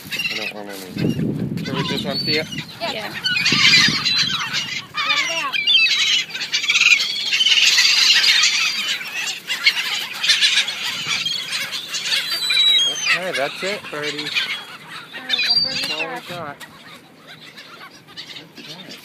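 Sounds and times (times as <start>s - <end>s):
seagulls squawking: 0.0s - 19.0s.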